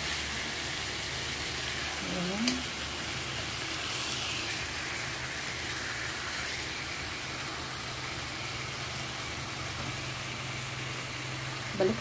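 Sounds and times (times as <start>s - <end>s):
bacon sizzling in a frying pan: 0.0s - 12.0s.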